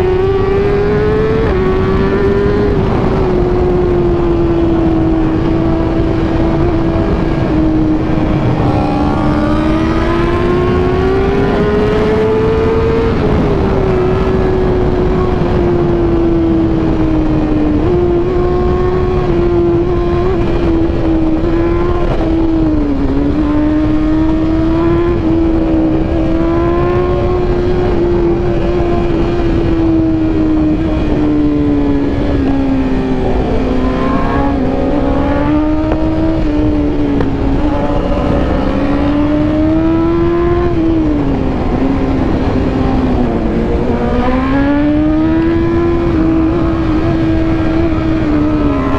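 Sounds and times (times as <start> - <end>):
motorbike engine at speed: 0.0 - 48.9
wind and road noise: 0.0 - 48.9.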